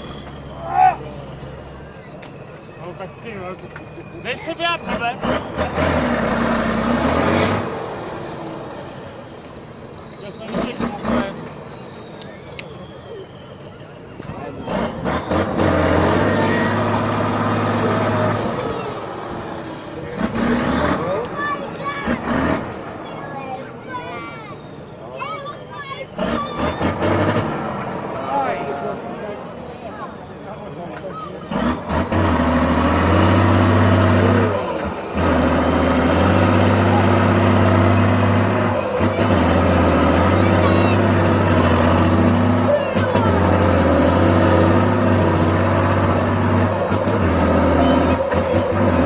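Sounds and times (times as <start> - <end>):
truck engine running under load: 0.0 - 49.0.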